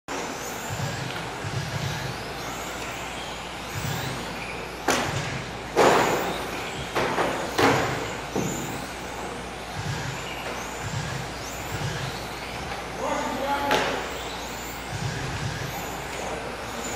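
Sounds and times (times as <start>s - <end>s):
electric rc car motors whining: 0.1s - 16.9s.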